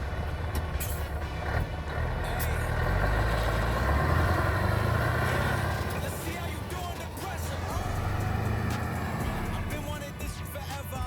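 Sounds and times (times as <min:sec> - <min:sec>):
diesel truck engine rumble: 0:00.0 - 0:11.0
road noise: 0:00.0 - 0:11.0.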